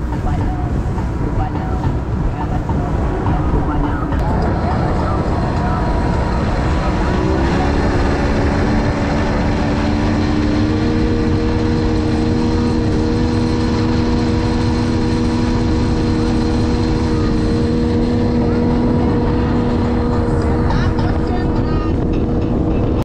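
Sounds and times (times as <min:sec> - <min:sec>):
outboard motor running: 0:00.0 - 0:23.0
rush of wind and water: 0:00.0 - 0:23.0.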